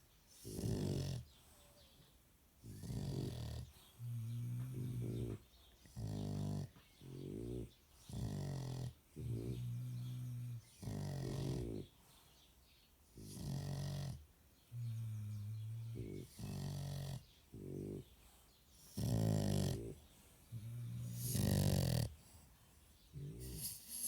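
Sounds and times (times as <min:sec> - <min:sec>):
dog snoring: 0:00.3 - 0:01.4, 0:02.6 - 0:12.0, 0:13.2 - 0:22.5, 0:23.1 - 0:24.0.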